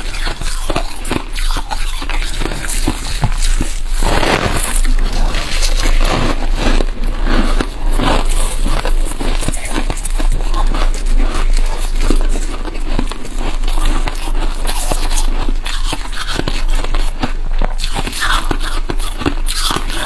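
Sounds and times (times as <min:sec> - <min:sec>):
frost crunching being chewed: 0:00.0 - 0:20.0.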